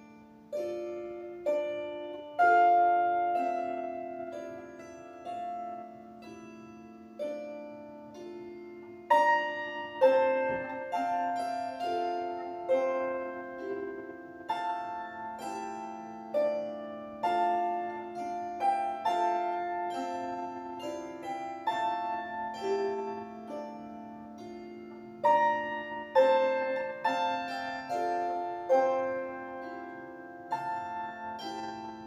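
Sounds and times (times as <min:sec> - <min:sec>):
plucked string instrument melody: 0:00.0 - 0:32.0.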